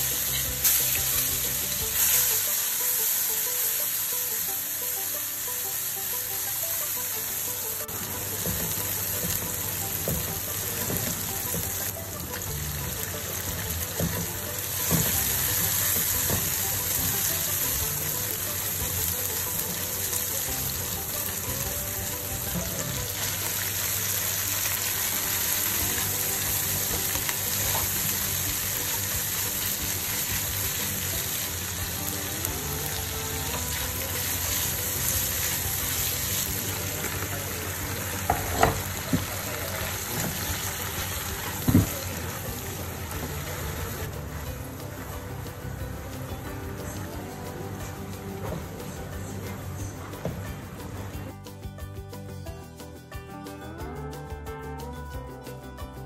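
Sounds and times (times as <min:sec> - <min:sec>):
food sizzling in hot oil: 0:00.0 - 0:51.3
soft background music: 0:00.0 - 0:56.0.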